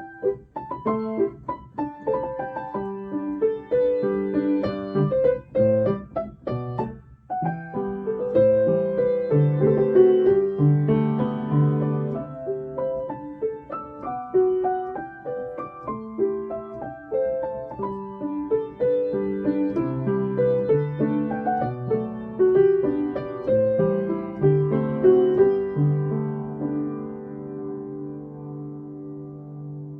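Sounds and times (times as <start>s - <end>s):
solo piano melody: 0.0s - 29.9s.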